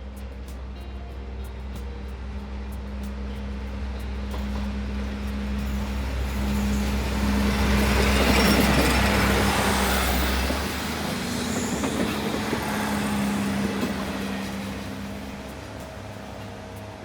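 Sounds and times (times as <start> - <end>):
diesel train engine drone: 0.0 - 17.0
wheel and rail noise: 0.0 - 17.0.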